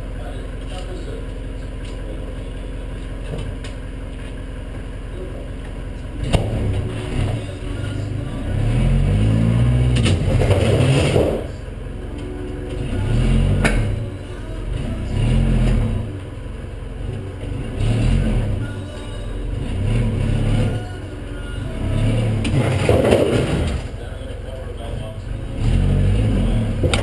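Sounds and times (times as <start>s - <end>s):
vehicle engine revving: 5.2s - 27.0s.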